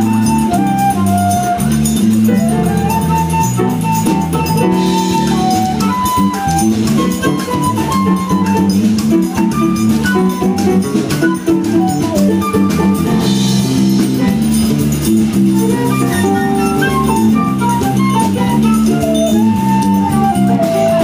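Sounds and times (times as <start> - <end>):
drum kit and percussion beat: 0.0 - 21.0
quick pitched instrumental notes: 0.0 - 21.0.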